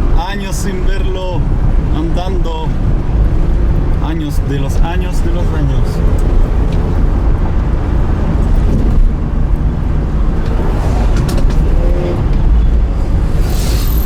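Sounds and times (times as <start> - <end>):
car engine deep rumble: 0.0 - 14.0.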